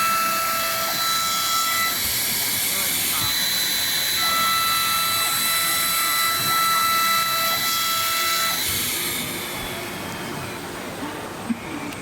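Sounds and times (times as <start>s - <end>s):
whining motor tones: 0.0s - 10.9s
cutting plotter hissing: 0.0s - 11.5s.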